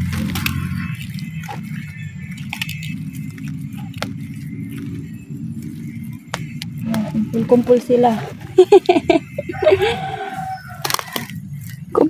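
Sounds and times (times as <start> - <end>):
roots snapping: 0.0 - 8.4, 10.6 - 12.0
hands digging through soil: 0.0 - 12.0
steady low rumble: 0.0 - 12.0.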